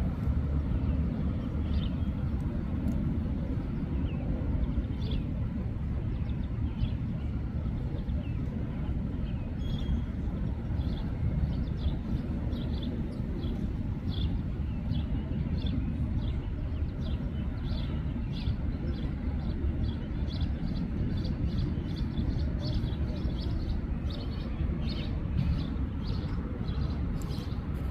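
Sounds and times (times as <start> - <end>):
low outdoor rumble: 0.0 - 27.9.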